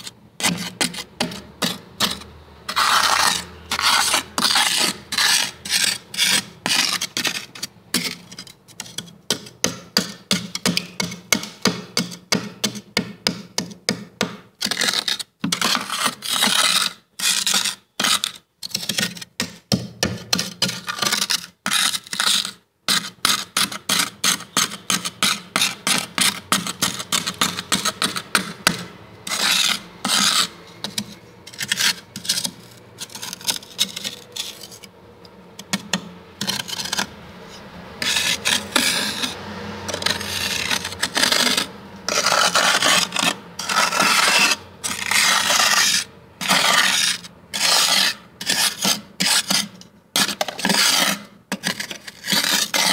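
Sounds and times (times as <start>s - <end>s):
frost being scraped: 0.0s - 9.5s, 14.6s - 19.3s, 20.2s - 34.9s, 35.6s - 52.9s.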